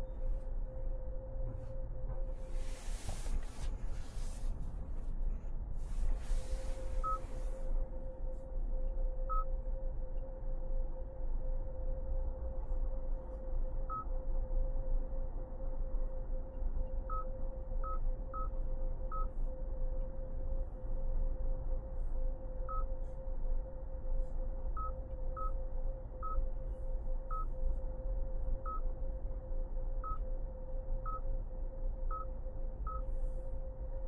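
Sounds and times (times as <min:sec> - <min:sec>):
constant tone: 0:00.0 - 0:34.0.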